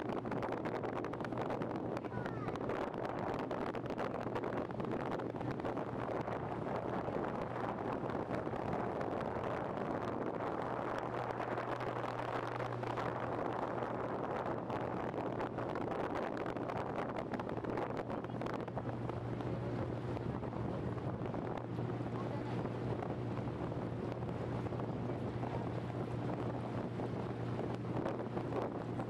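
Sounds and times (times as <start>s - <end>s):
motorboat engine humming: 0.0s - 29.0s
water rushing past hull: 0.0s - 29.0s
wind buffeting microphone: 0.0s - 29.0s.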